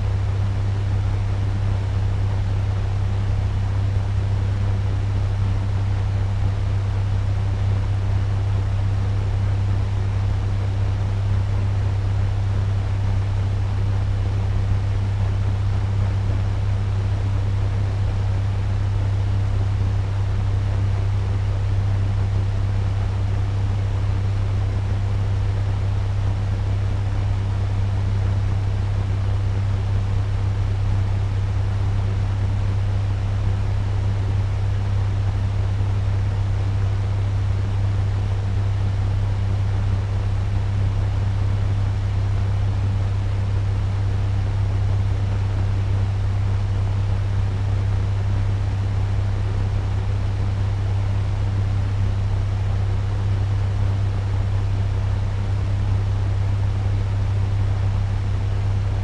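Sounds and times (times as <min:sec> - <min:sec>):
fan air rushing: 0:00.0 - 0:59.0
low motor hum: 0:00.0 - 0:59.0.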